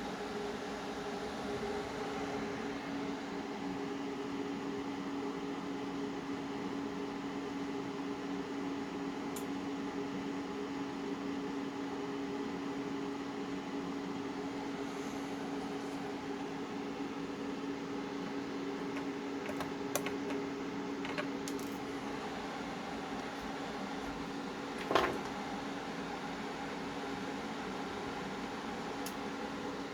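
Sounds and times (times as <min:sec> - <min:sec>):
cooling fans whirring: 0:00.0 - 0:29.9.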